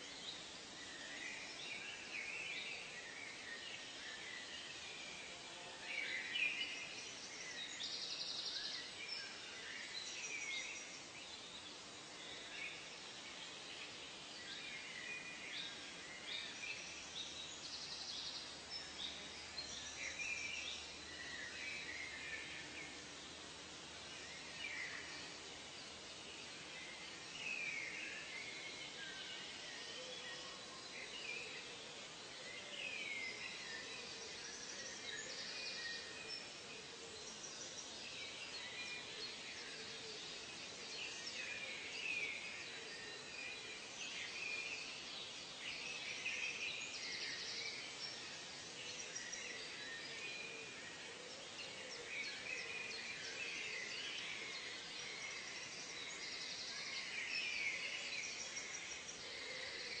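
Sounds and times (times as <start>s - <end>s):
faint steady hiss: 0.0s - 60.0s.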